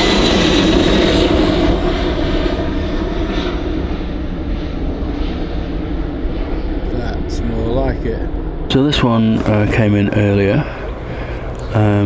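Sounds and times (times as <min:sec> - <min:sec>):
jet engines rumbling at takeoff: 0:00.0 - 0:12.0.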